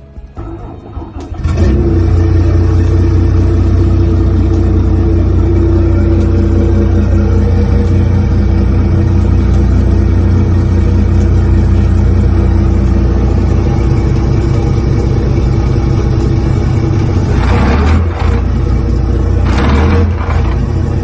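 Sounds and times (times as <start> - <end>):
boat diesel engines running: 0.0 - 21.0.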